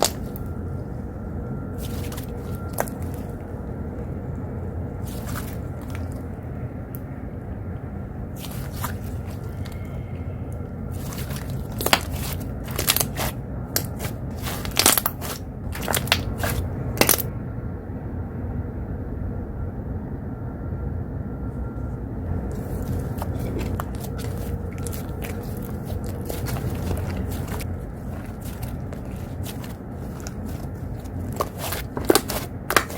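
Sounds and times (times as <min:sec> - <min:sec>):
low rumble of outside noise: 0:00.0 - 0:32.9.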